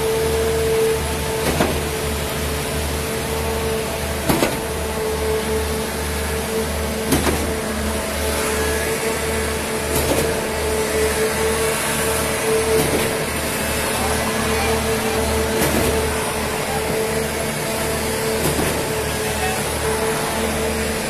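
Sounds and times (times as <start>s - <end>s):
concrete pump engine drone: 0.0s - 21.0s.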